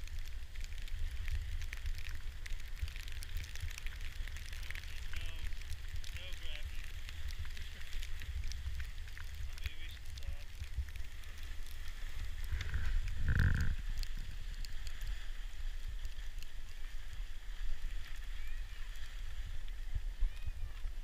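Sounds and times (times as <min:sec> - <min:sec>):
skis on packed snow: 0:00.0 - 0:21.0
wind rumble on microphone: 0:00.0 - 0:21.0.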